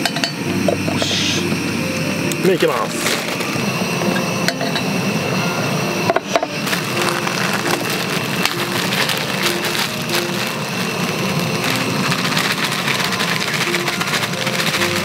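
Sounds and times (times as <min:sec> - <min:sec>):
background music: 0:00.0 - 0:15.0
water boiling in a pot: 0:00.0 - 0:15.0.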